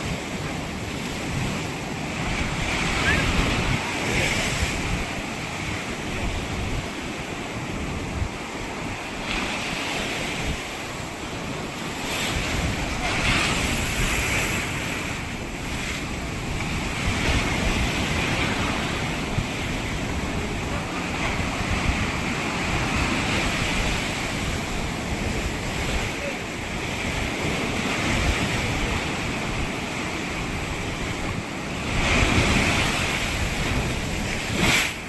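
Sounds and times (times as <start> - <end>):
ocean waves breaking on beach: 0.0 - 35.0
wind buffeting microphone: 0.0 - 35.0.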